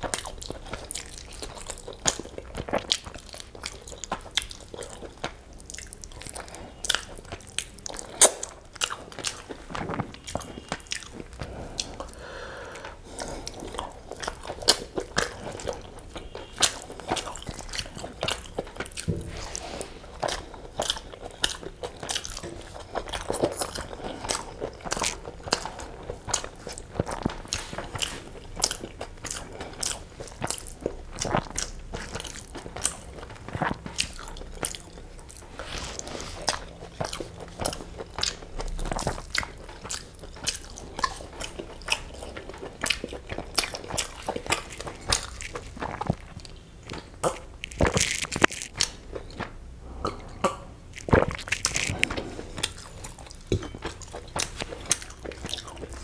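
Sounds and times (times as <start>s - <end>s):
chewing and biting: 0.0s - 12.2s, 12.8s - 56.0s.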